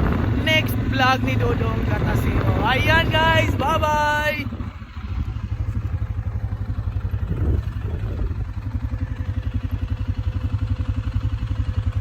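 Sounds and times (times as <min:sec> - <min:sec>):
engine clatter: 0:00.0 - 0:12.0
small engine puttering: 0:00.0 - 0:12.0.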